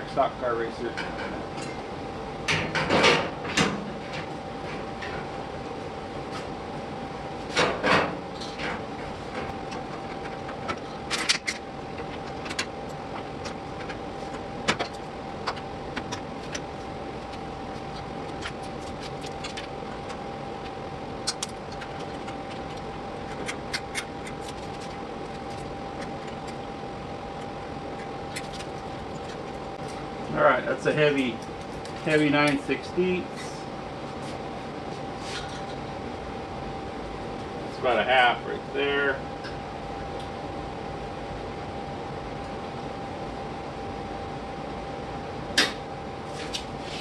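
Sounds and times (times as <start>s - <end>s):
shop hum: 0.0s - 47.0s.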